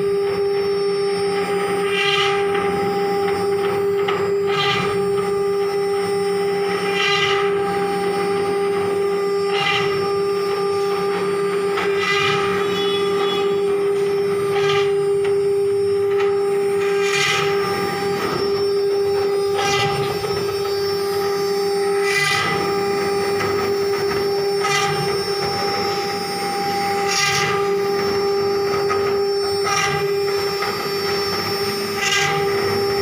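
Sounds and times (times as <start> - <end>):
router spindle whine: 0.0 - 33.0.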